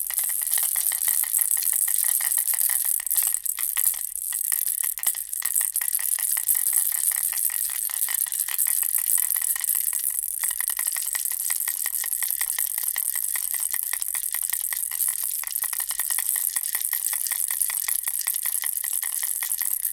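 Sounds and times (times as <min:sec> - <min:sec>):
baby rattle shaken: 0:00.0 - 0:19.9.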